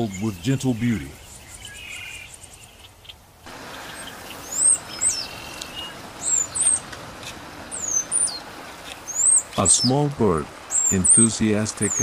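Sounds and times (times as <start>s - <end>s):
outdoor ambience hiss: 0.0s - 12.0s
small songbird calling: 0.0s - 12.0s.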